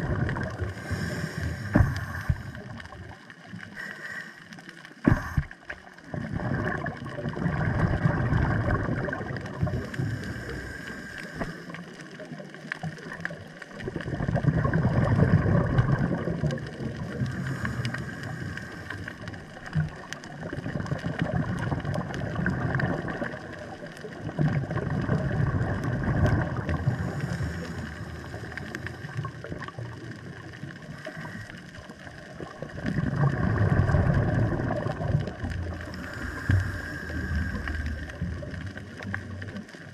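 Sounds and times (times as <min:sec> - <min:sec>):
fine crackle: 0:00.0 - 0:39.9
regulator exhale bubbling: 0:00.0 - 0:39.9.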